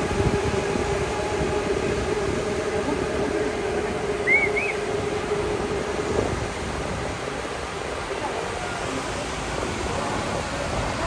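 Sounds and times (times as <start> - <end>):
drone rotors humming: 0.0 - 11.0
low gusty rumble: 0.0 - 11.0.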